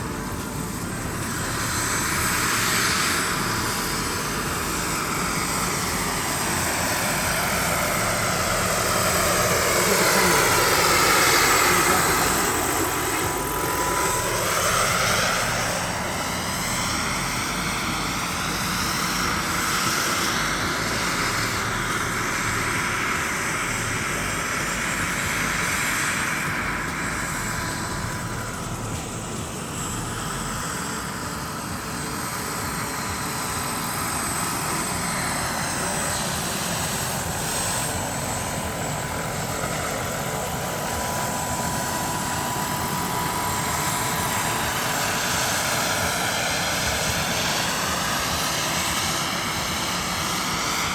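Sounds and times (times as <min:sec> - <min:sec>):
steady high tone: 0:00.0 - 0:48.3
model helicopter rotor whine: 0:00.0 - 0:50.9.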